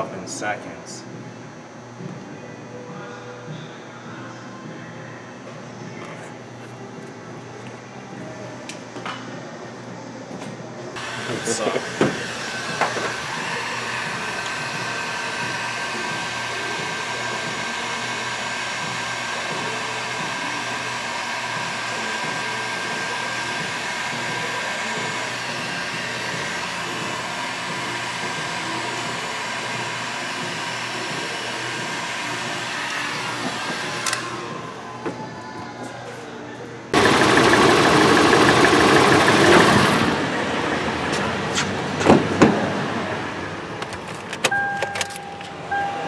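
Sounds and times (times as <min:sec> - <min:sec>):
heat gun fan whining: 0:00.0 - 0:46.0.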